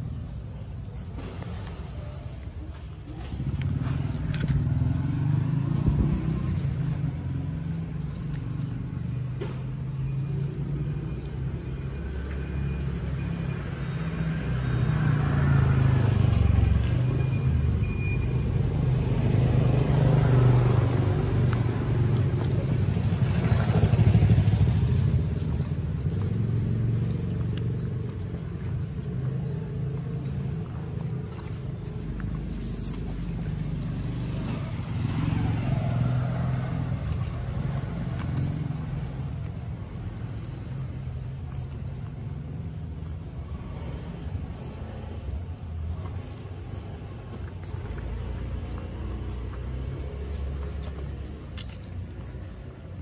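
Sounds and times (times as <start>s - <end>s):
passing road vehicles rumbling: 0.0s - 53.0s.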